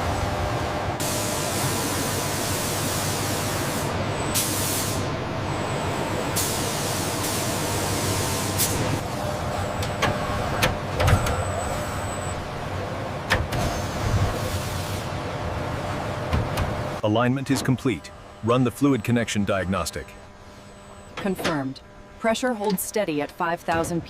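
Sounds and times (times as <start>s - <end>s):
factory machinery humming: 0.0s - 24.0s.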